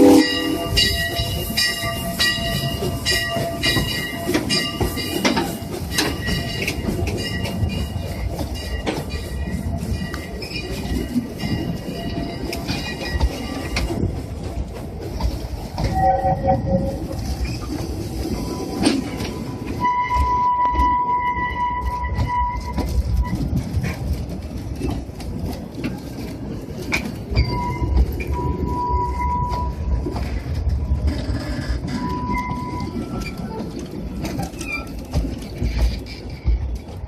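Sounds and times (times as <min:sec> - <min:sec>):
train rumble and rattle: 0:00.0 - 0:37.0.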